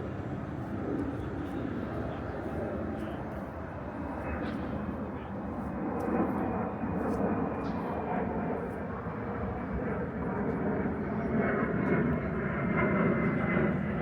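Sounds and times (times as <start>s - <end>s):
airplane engine rumble overhead: 0.0s - 14.0s.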